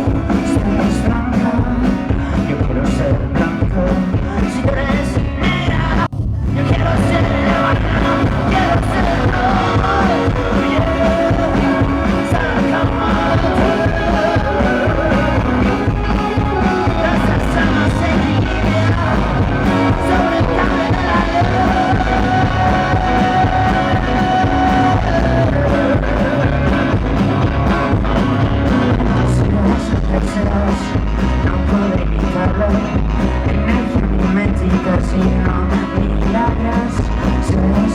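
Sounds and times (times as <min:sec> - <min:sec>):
rock band playing live: 0:00.0 - 0:37.9.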